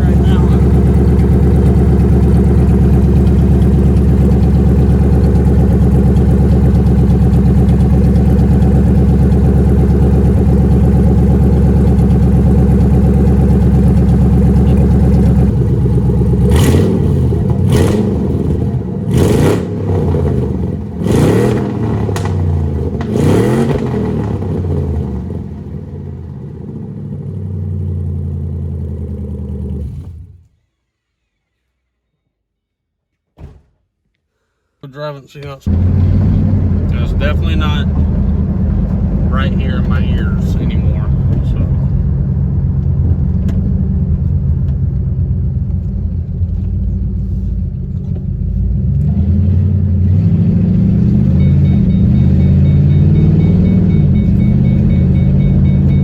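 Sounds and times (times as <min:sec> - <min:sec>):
car engine idling: 0:00.0 - 0:30.4, 0:35.4 - 0:56.0
engine throttle blips: 0:00.0 - 0:30.4, 0:35.4 - 0:56.0.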